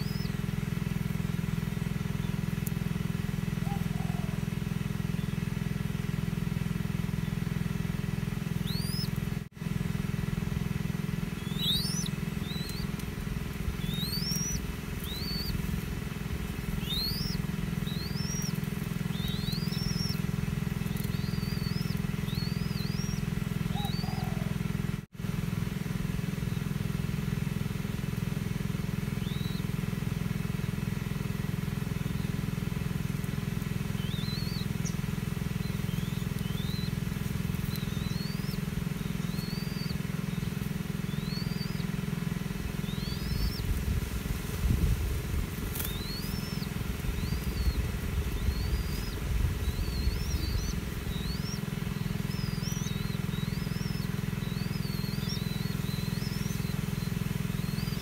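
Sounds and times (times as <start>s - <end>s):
small birds chirping: 0.0s - 58.0s
steady low rumble: 0.0s - 58.0s.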